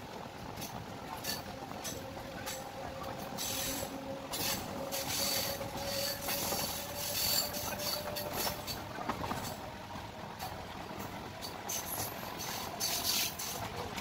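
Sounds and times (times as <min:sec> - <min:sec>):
train rumble and rush: 0:00.0 - 0:14.0
wheels clicking on rails: 0:00.0 - 0:14.0.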